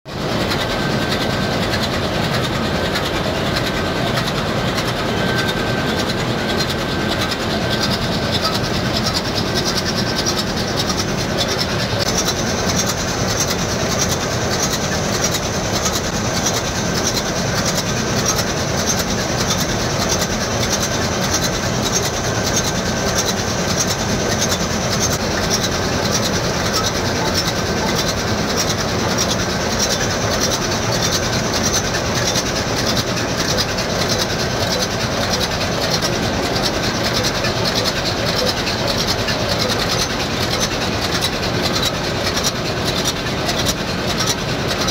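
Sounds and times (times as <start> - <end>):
ship engine pulsing mechanical noise: 0.1 - 44.9.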